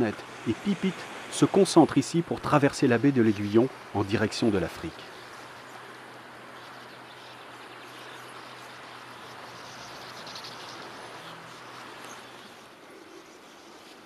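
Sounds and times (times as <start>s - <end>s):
small songbirds calling: 0.0s - 14.0s
steady hiss: 0.0s - 14.0s.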